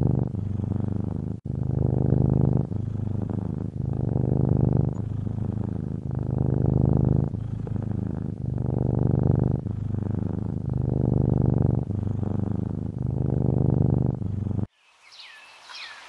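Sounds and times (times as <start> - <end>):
cat purring: 0.0 - 14.7.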